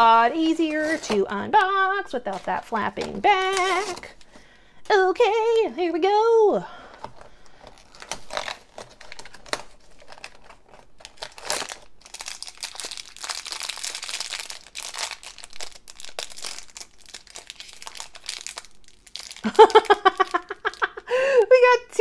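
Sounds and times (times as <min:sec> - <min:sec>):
foil bag crackling and tearing: 0:00.0 - 0:04.4, 0:06.8 - 0:21.0.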